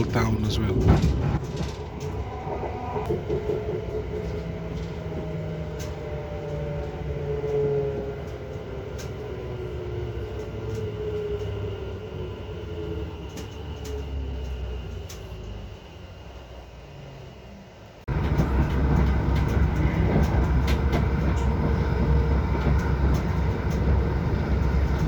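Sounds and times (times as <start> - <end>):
train carriage rumble: 0.0 - 25.0
train motor whine: 0.0 - 25.0.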